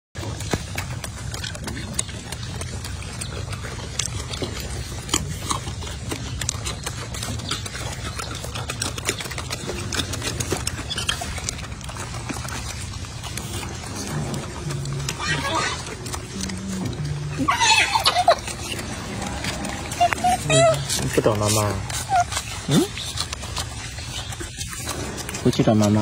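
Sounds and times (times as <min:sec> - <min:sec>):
monkeys chewing and crunching: 0:00.2 - 0:26.0.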